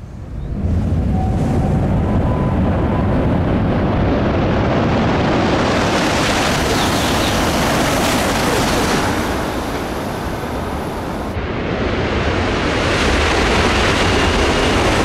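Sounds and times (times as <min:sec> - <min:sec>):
high-speed train rushing past: 0:00.0 - 0:15.0.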